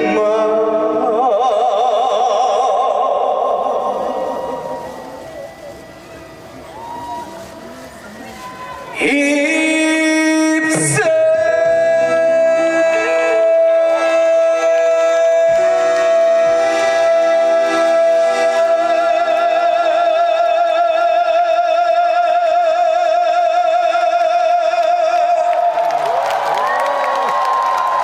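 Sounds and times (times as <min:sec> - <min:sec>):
man singing long high note: 0:00.0 - 0:06.0, 0:08.9 - 0:25.8.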